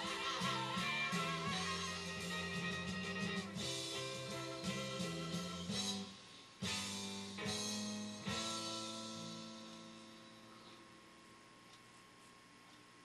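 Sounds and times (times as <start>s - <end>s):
guitar chords strummed: 0.0s - 10.6s.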